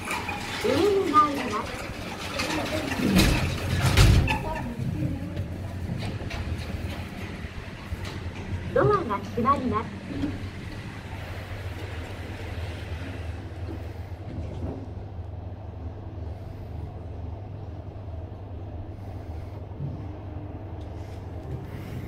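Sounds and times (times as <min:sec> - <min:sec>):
elevator car humming: 0:00.0 - 0:22.0
elevator rushing noise: 0:00.0 - 0:22.0.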